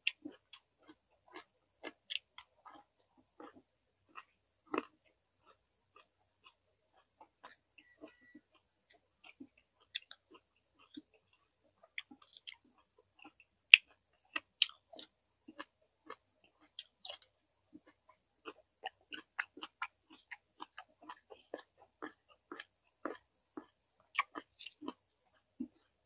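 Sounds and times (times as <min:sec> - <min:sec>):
close chewing with mouth clicks: 0:00.0 - 0:26.0.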